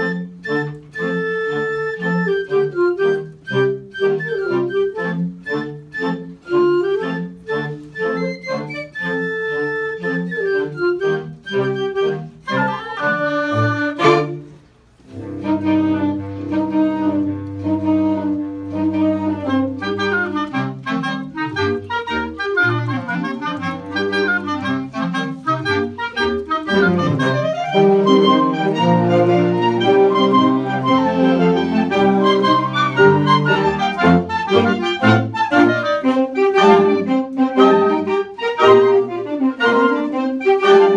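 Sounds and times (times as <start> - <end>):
woodwind ensemble playing a march: 0.0 - 40.9.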